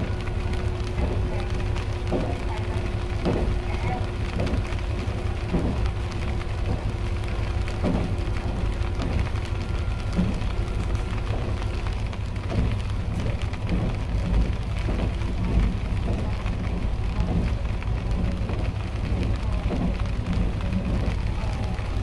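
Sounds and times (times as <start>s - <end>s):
dense irregular crackle: 0.0s - 22.0s
railcar engine and wheels drone: 0.0s - 22.0s.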